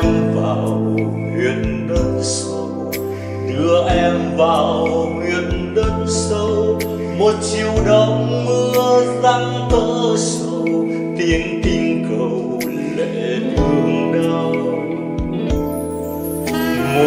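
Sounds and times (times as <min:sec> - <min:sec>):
karaoke ballad music: 0:00.0 - 0:17.0.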